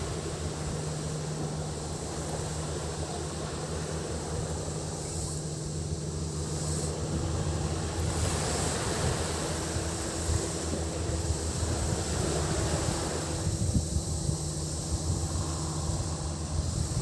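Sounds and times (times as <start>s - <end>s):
cicada buzz: 0.0s - 17.0s
low engine hum: 0.0s - 17.0s
waves washing on beach: 0.0s - 17.0s
wind: 0.0s - 17.0s.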